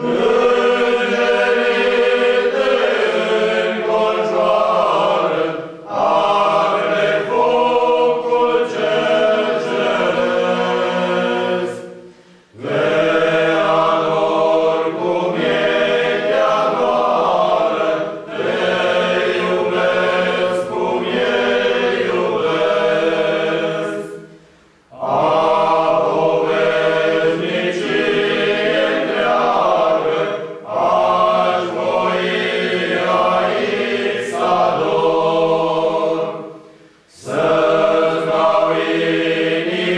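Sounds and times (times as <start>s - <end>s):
men's choir singing a cappella: 0.0s - 39.9s.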